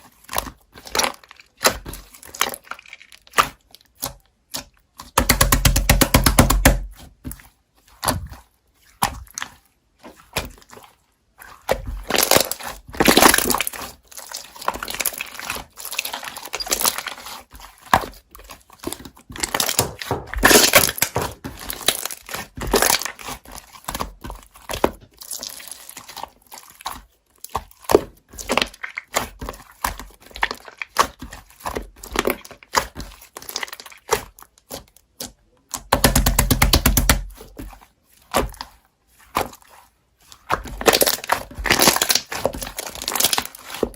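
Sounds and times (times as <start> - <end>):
slime squished by hand: 0.1 - 43.9.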